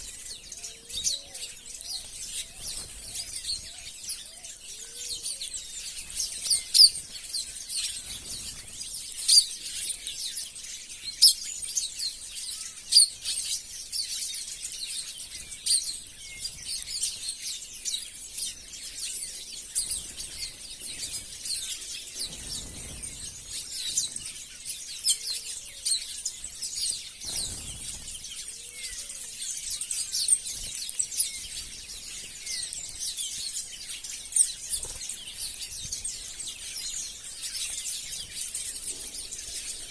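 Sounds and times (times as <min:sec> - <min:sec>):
flock of birds chirping: 0:00.0 - 0:39.9.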